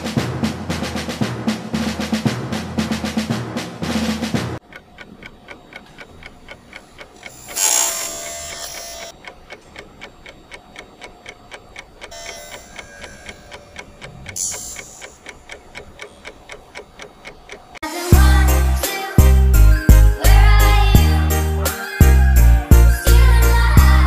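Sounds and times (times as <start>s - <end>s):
clock ticking: 4.6s - 24.0s.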